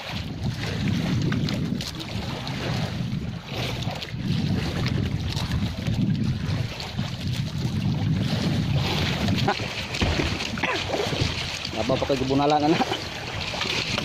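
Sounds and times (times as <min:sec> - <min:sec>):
water washing against boat hull: 0:00.0 - 0:14.0
wind buffeting microphone: 0:00.0 - 0:14.0.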